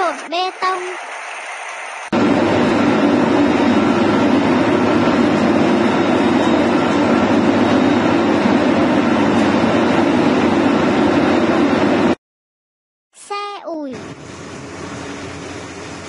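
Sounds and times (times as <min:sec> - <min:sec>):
concrete mixer truck running: 0:00.0 - 0:12.2, 0:13.9 - 0:16.0.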